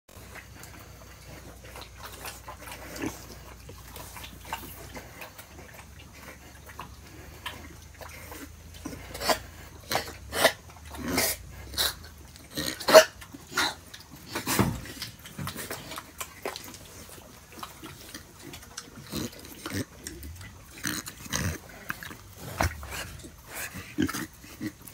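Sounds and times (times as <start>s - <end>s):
pigs grunting and squealing: 0.2s - 24.9s.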